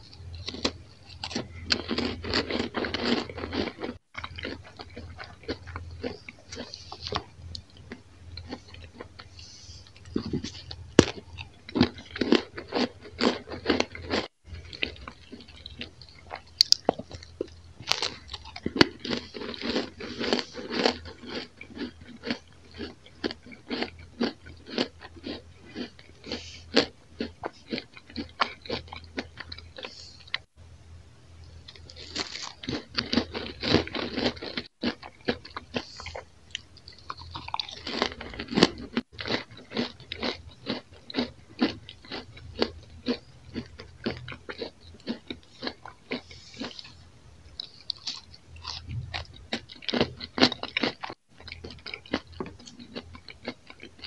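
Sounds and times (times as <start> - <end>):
person crunching crispy toast: 0.1 - 9.3, 9.9 - 30.4, 31.7 - 47.0, 47.6 - 54.0.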